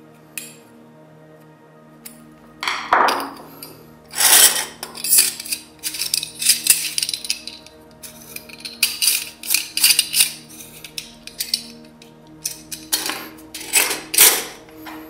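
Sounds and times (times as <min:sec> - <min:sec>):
background music sustained notes: 0:00.0 - 0:15.0
small metal parts clinking: 0:02.6 - 0:15.0.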